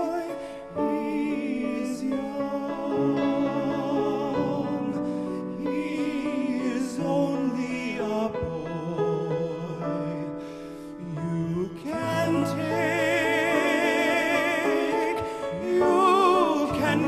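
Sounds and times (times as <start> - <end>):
piano accompaniment: 0.0 - 17.0
two men singing in harmony: 0.0 - 17.0.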